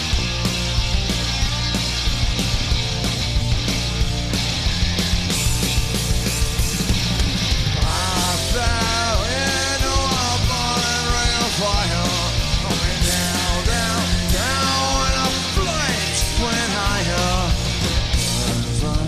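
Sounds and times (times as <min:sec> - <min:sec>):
bass guitar: 0:00.0 - 0:19.0
bending lead melody: 0:00.0 - 0:19.0
drums: 0:00.0 - 0:19.0
punk rock band playing: 0:00.0 - 0:19.0.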